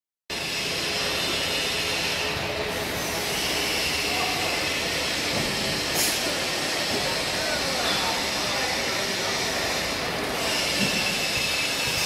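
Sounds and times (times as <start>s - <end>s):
bottle washing machine running: 0.3s - 12.0s.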